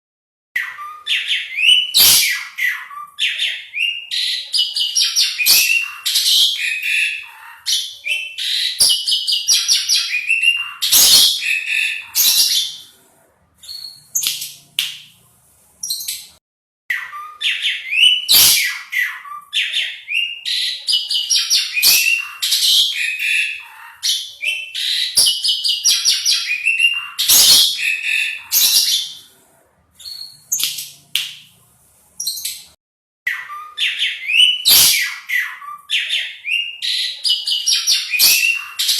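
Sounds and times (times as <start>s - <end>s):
starling singing: 0.6s - 13.0s, 15.8s - 29.3s, 32.2s - 38.9s.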